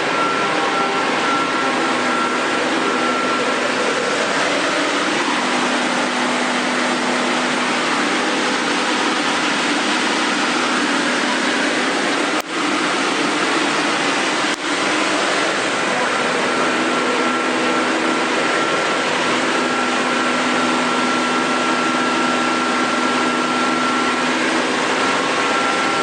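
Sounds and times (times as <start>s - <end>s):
faint high whine: 0.0s - 26.0s
lathe machine running: 0.0s - 26.0s.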